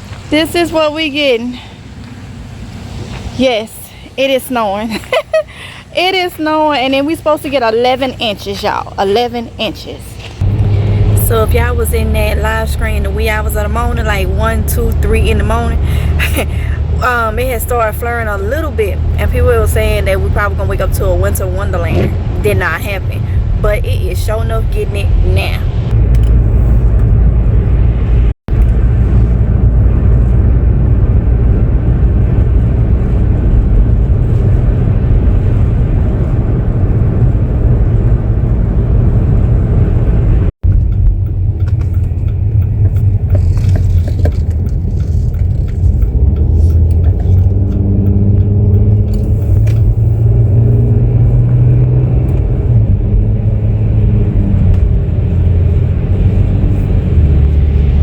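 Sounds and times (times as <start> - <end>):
loud low rumble: 10.4 - 58.0.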